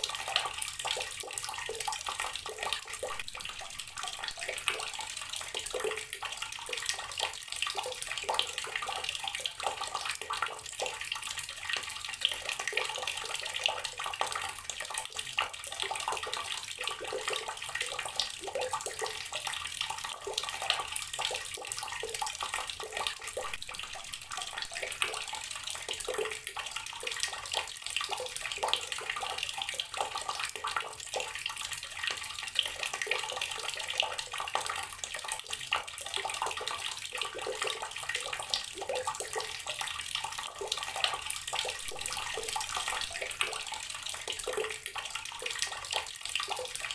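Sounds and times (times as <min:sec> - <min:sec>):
water running from a tap: 0:00.0 - 0:46.9
water splashing into a basin: 0:00.0 - 0:46.9.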